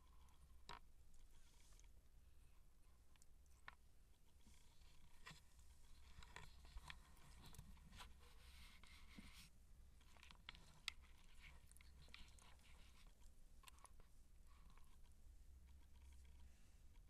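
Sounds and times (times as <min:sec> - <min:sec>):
low steady hum: 0:00.0 - 0:17.0
kittens rustling and clicking: 0:03.2 - 0:17.0.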